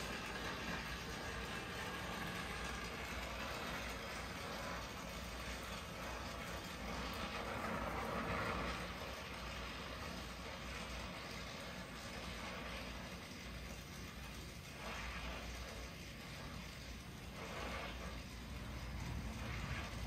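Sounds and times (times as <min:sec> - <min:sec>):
torch flame hissing: 0:00.0 - 0:20.0.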